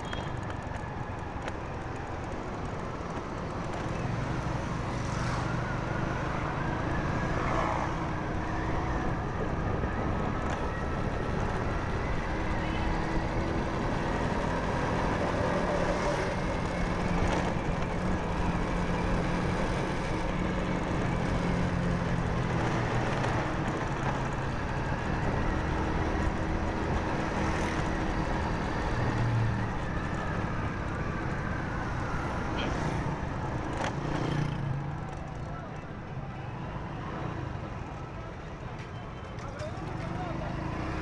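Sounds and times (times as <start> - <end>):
street traffic: 0.0 - 41.0
wind and road noise: 0.0 - 41.0.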